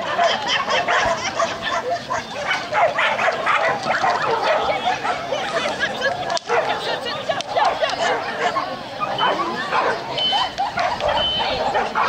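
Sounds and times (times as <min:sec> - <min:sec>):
dog barking and yapping: 0:00.0 - 0:12.0.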